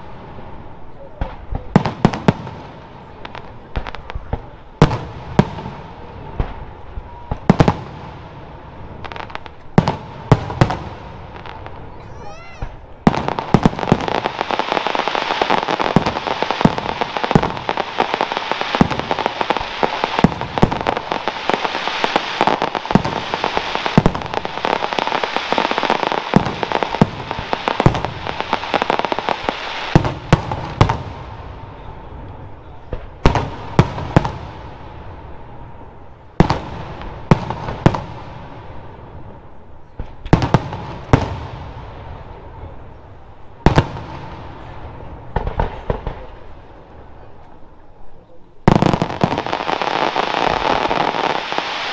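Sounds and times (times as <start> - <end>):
firework crackle: 0.0 - 51.9.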